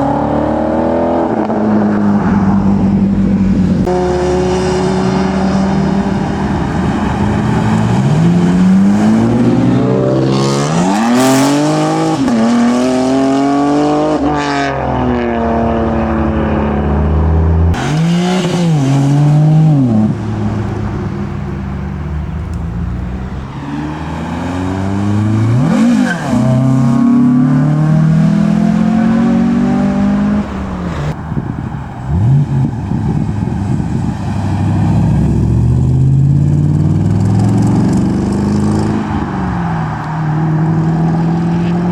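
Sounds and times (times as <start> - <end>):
cars accelerating hard: 0.0 - 41.9
exhaust crackles: 1.5 - 12.8, 15.0 - 41.9.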